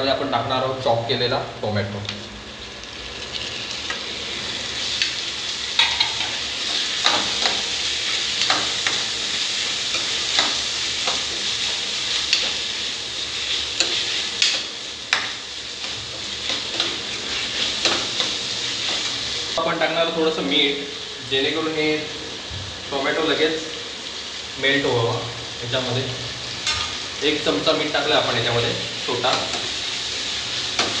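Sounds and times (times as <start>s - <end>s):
tomatoes sizzling in hot oil: 2.1s - 31.0s.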